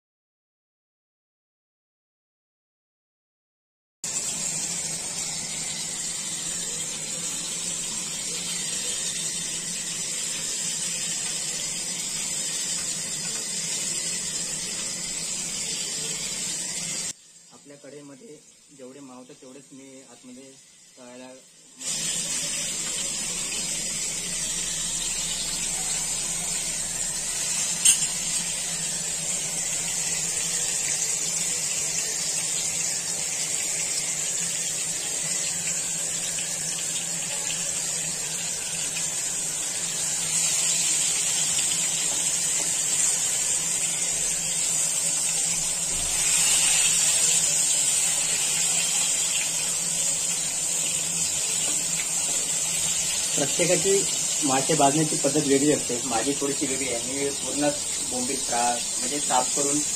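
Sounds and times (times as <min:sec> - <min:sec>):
fish sizzling in hot oil: 0:04.1 - 0:59.9.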